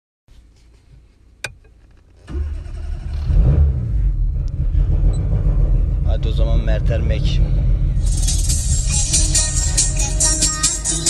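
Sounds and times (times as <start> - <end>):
car engine starting and revving: 1.4 - 10.4.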